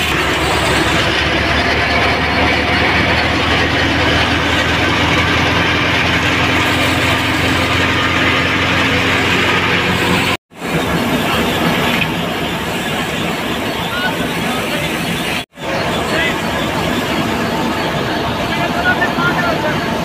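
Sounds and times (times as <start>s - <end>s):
threshing machine running: 0.0s - 20.0s
tractor engine hum: 0.0s - 20.0s.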